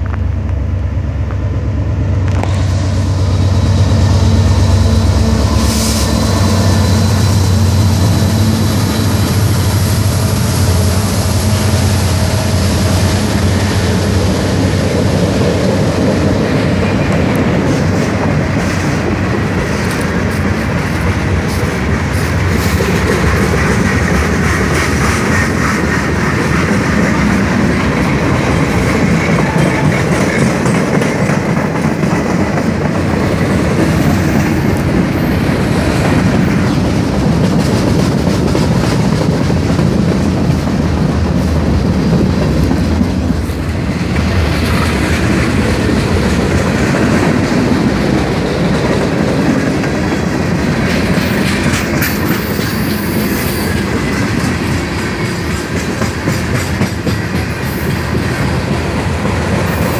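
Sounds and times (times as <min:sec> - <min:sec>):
locomotive engines droning: 0:00.0 - 0:59.9
train wheels clicking over rail joints: 0:02.2 - 0:59.9.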